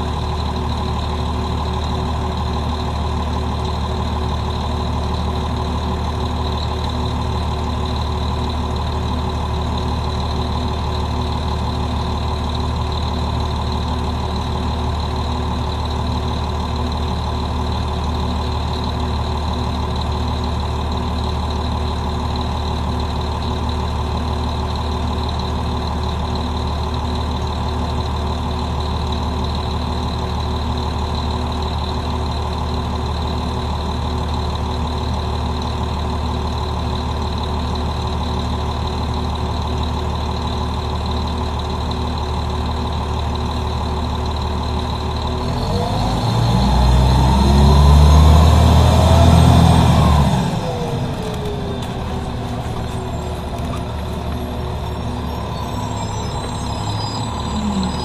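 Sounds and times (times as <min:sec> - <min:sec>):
diesel bus engine idling: 0:00.0 - 0:58.0.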